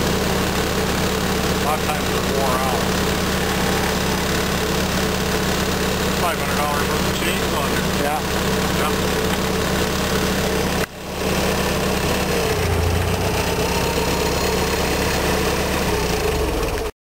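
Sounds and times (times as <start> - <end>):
forklift engine running: 0.0 - 16.9.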